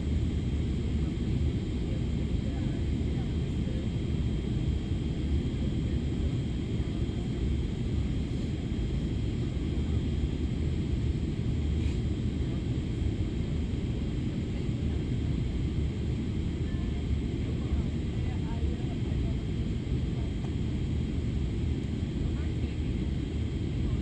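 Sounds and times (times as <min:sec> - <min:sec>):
airliner engine rumble: 0:00.0 - 0:24.0.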